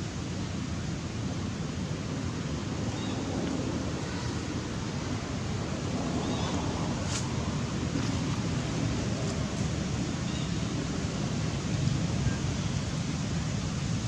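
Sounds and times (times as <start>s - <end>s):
wind on microphone: 0.4s - 14.0s.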